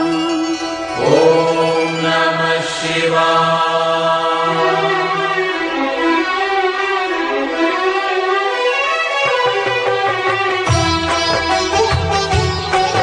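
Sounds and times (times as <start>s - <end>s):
devotional music melody: 0.0s - 13.0s.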